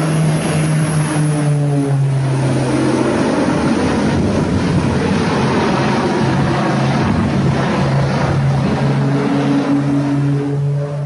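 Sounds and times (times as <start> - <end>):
propeller airplane passing low: 0.0 - 11.0
rough steady rushing noise: 0.0 - 11.0.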